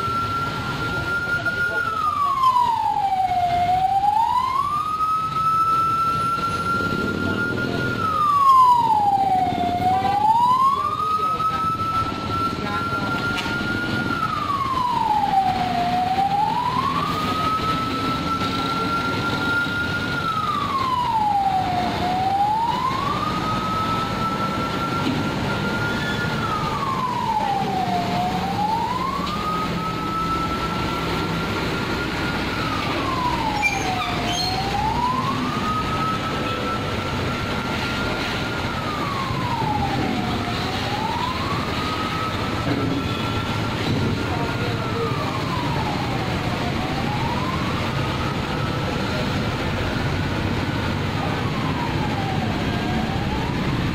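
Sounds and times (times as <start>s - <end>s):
road noise: 0.0s - 53.9s
siren wailing: 0.0s - 53.9s
truck engines rumbling: 0.0s - 53.9s.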